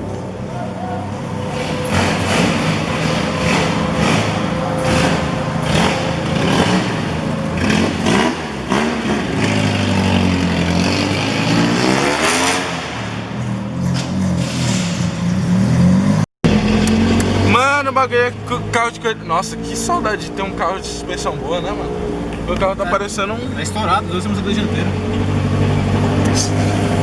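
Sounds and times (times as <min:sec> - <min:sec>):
car engine accelerating: 0:00.0 - 0:27.0
road noise: 0:00.0 - 0:27.0.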